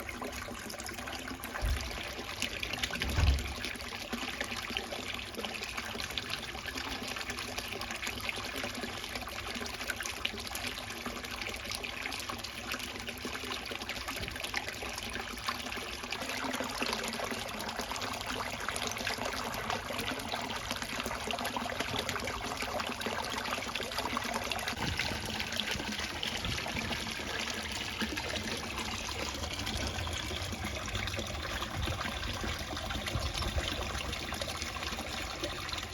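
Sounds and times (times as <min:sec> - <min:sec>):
water trickling into pond: 0:00.0 - 0:35.9.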